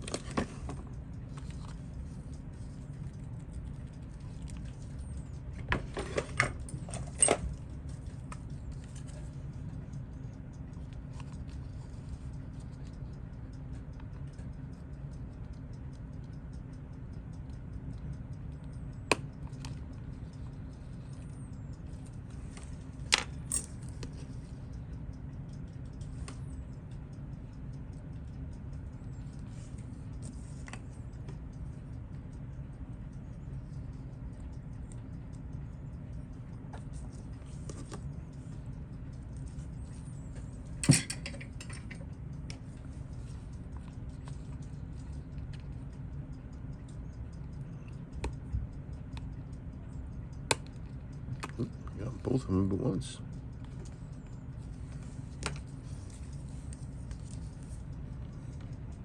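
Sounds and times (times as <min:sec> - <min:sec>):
steady low hum: 0:00.0 - 0:59.0
metal tools clicking on watch parts: 0:00.1 - 0:59.0.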